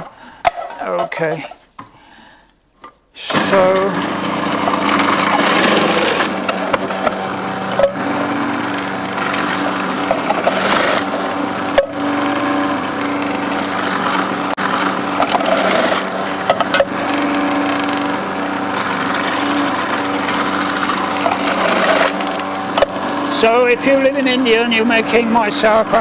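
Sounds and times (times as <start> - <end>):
cabbage crunching in shredder: 3.2 - 26.0
food processor motor hum: 3.2 - 26.0.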